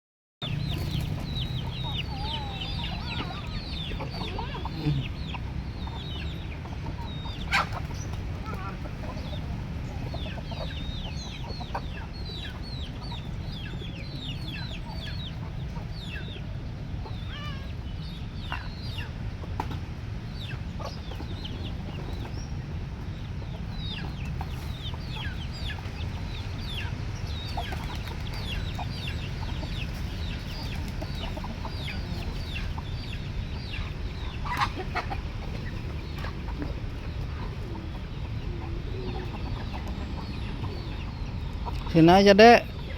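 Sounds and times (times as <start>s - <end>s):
small birds chirping: 0.4s - 42.9s.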